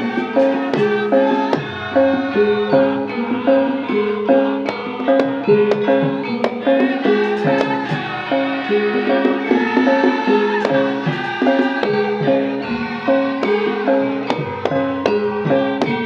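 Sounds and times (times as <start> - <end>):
metallophones ringing melody: 0.0 - 16.0
sharp drum strokes: 0.0 - 16.0.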